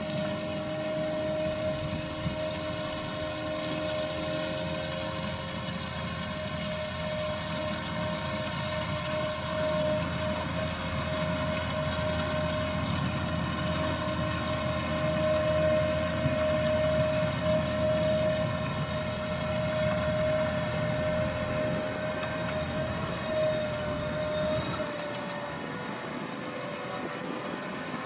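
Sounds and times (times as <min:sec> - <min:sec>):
high machine whine: 0:00.0 - 0:28.0
low engine rumble: 0:00.0 - 0:28.0.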